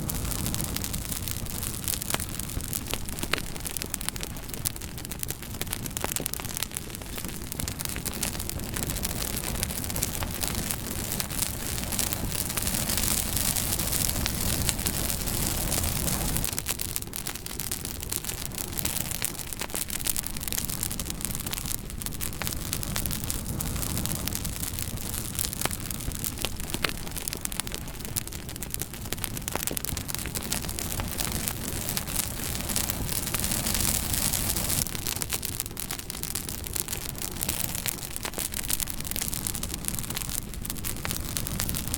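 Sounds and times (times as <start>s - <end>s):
fire pops and snaps: 0.0s - 41.9s
wood fire crackling: 0.0s - 41.9s.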